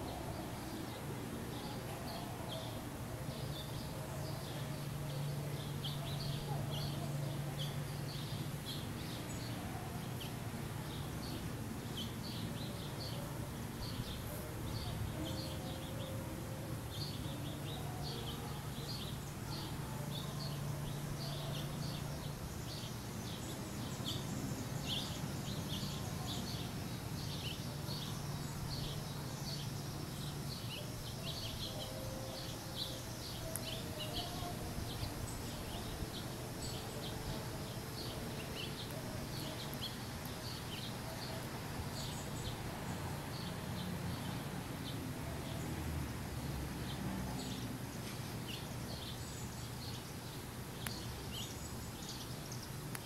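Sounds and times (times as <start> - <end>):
outdoor background noise: 0.0 - 53.0
small birds chirping: 0.0 - 53.0.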